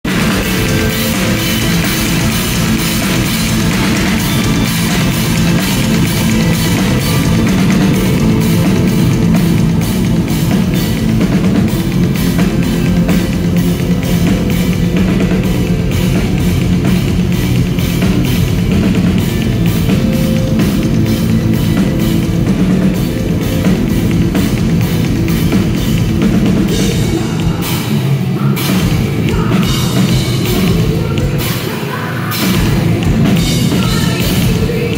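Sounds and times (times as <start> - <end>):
pounding bass drum: 0.0 - 27.9, 32.5 - 34.9
fast drumming: 0.0 - 34.9
heavy guitars: 0.0 - 34.9.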